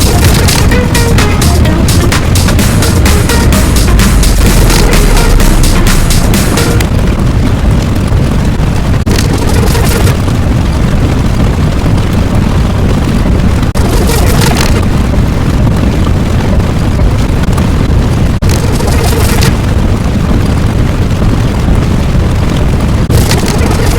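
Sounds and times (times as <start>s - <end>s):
continuous rumbling: 0.0s - 23.9s.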